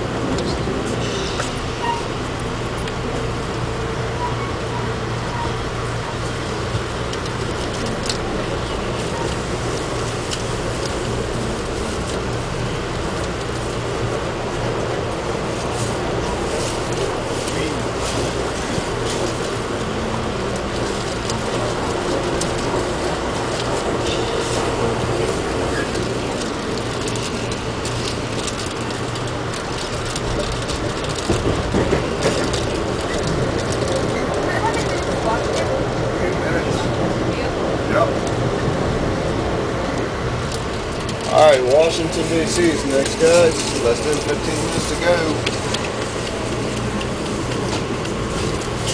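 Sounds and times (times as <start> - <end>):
train coach rumble and hum: 0.0 - 48.9.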